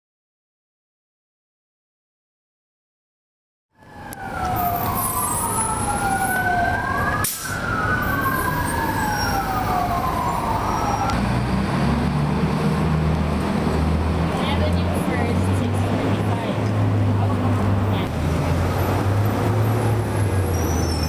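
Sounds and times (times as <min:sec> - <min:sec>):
emergency sirens wailing: 0:03.8 - 0:21.0
low traffic hum: 0:03.8 - 0:21.0.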